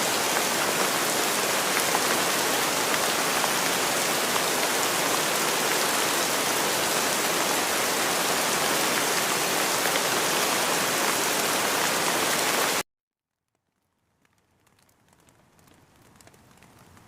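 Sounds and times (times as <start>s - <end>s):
rain falling: 0.0s - 12.8s, 13.5s - 17.0s
faint raindrops: 0.0s - 17.0s.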